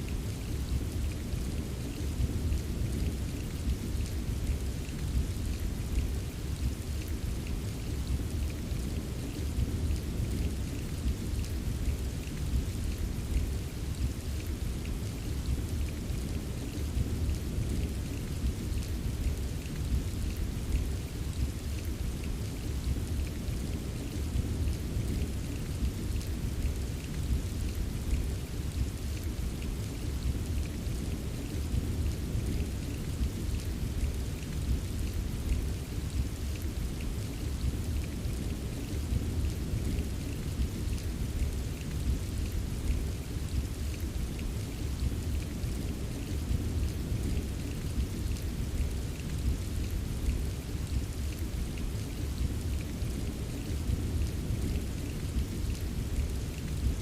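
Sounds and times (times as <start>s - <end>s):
rain hissing and pattering: 0.0s - 57.0s.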